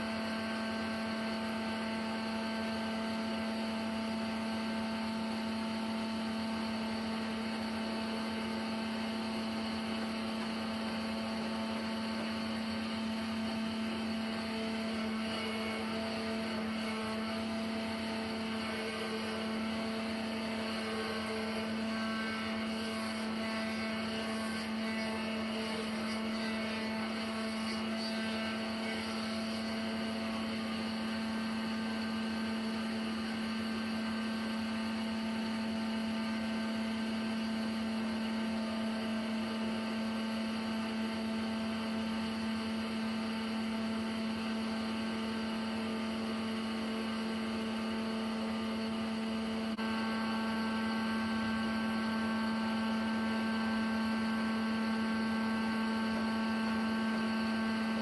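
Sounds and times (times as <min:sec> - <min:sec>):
high steady machine whine: 0:00.0 - 0:58.0
sawmill machinery humming: 0:00.0 - 0:58.0.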